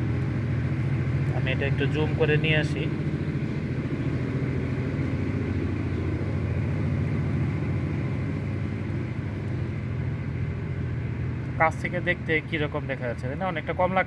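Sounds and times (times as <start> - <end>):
fire rumbling in a stove: 0.0 - 14.0.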